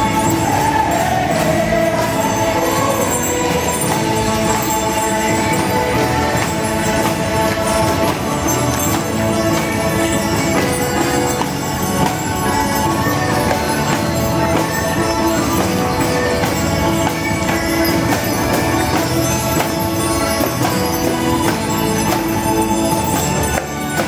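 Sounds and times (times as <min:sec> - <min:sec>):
parade music with steady beat: 0:00.0 - 0:24.0.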